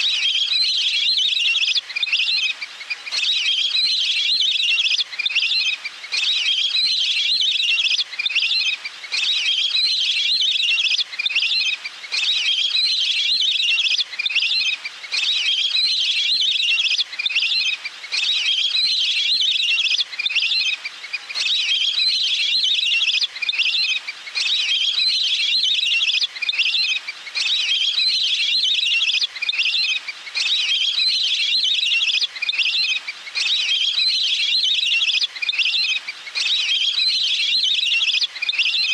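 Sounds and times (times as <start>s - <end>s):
recorded waterfowl chirping calls: 0.0s - 38.9s.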